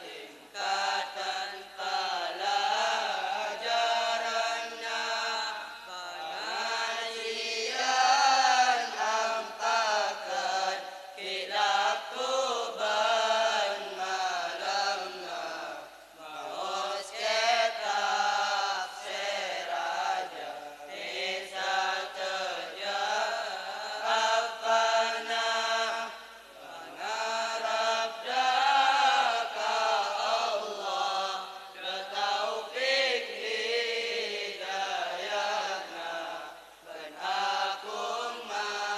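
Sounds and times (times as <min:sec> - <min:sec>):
boys chanting in unison: 0:00.0 - 0:38.9.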